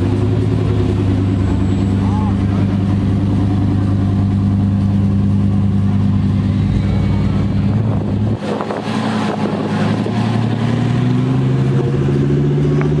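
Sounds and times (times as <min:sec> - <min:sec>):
sports car engine accelerating: 0:00.0 - 0:13.0.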